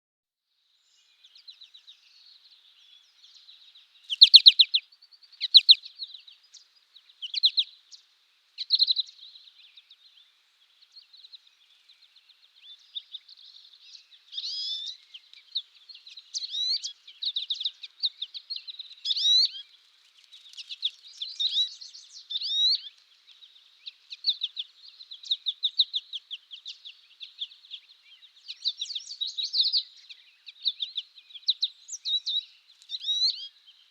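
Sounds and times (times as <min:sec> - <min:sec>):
goldfinch chirping and twittering: 0:00.9 - 0:08.0, 0:08.6 - 0:33.9.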